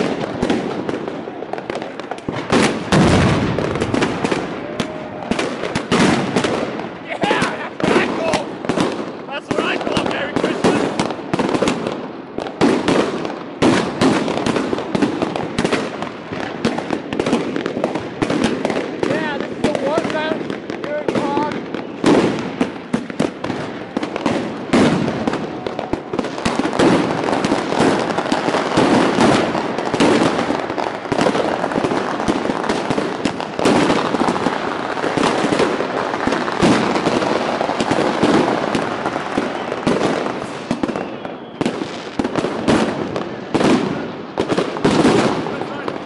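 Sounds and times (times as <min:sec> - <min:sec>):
fireworks and firecrackers banging: 0:00.0 - 0:46.0.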